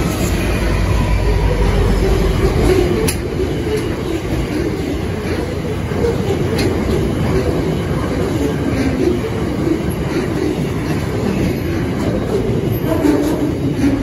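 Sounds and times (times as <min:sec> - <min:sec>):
locomotive rumble: 0:00.0 - 0:14.0
train wheels on rails: 0:00.0 - 0:14.0.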